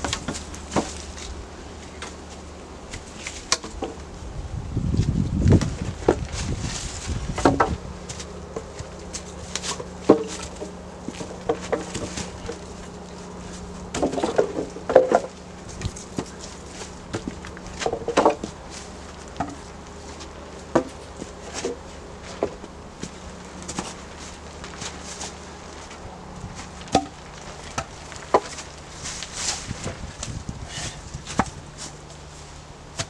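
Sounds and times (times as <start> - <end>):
wooden logs knocking and clattering: 0.0 - 4.2, 4.9 - 33.0
steady low hum: 0.0 - 33.0.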